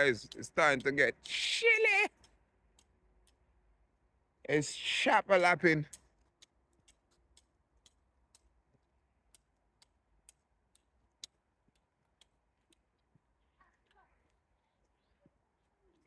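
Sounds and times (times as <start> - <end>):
faint irregular ticks: 0.0 - 3.8, 5.4 - 16.0.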